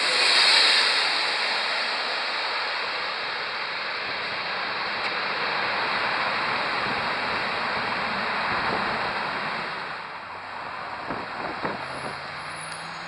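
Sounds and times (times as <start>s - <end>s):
jet airliner roar: 0.0s - 13.0s.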